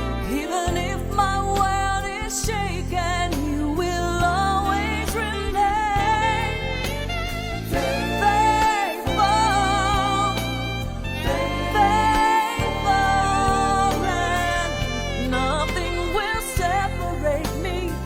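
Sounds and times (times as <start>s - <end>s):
band accompaniment: 0.0s - 18.0s
person singing with vibrato: 0.0s - 18.0s.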